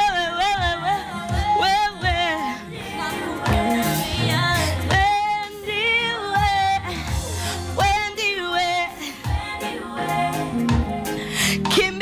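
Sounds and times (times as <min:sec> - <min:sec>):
instrumental backing: 0:00.0 - 0:12.0
woman singing gospel: 0:00.0 - 0:12.0.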